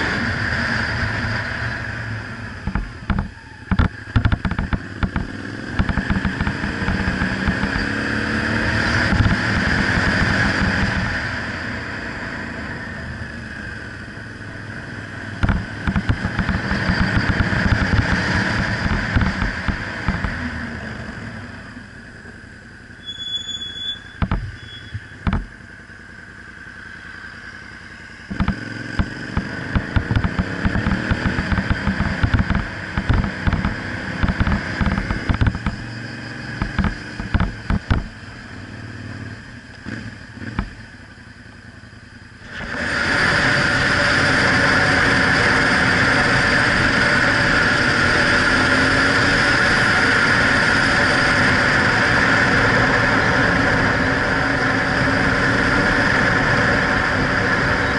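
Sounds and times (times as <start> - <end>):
motorcycle engine accelerating: 0.0 - 22.0, 24.2 - 57.9.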